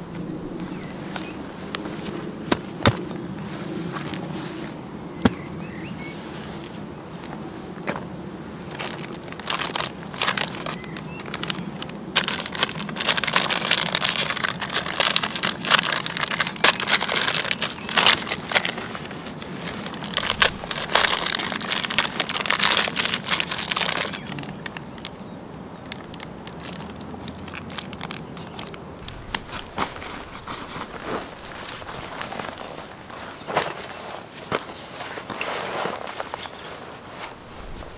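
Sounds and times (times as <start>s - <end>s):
crinkling and crackling: 0.0s - 4.7s, 6.3s - 25.2s, 25.8s - 37.9s.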